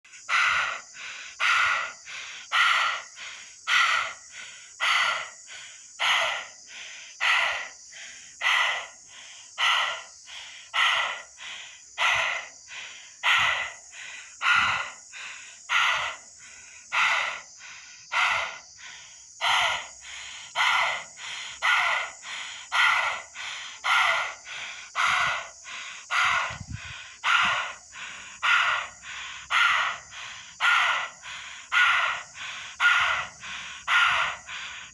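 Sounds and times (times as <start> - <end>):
boy breathing heavily: 0.0 - 34.9.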